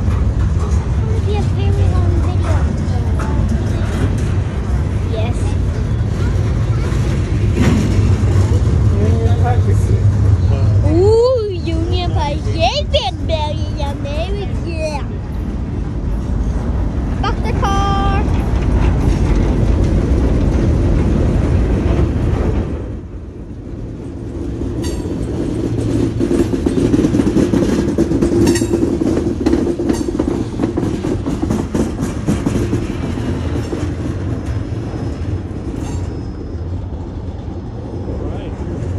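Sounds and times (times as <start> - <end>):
steel wheels rumbling on rails: 0.0 - 38.9.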